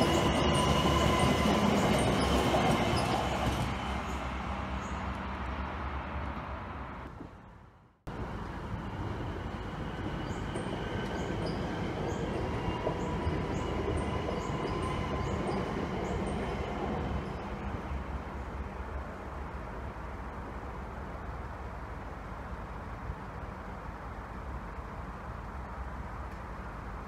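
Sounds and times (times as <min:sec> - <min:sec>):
electric train rumbling past: 0:00.0 - 0:27.0.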